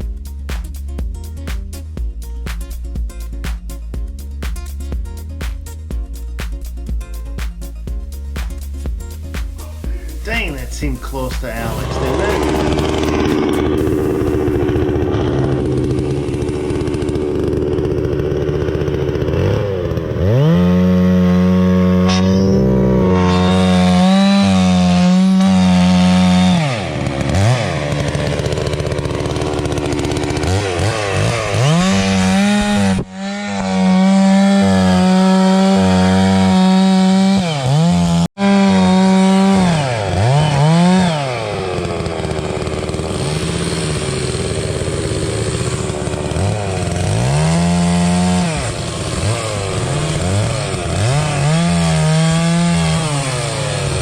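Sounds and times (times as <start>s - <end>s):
chainsaw idling and revving: 8.2s - 54.0s.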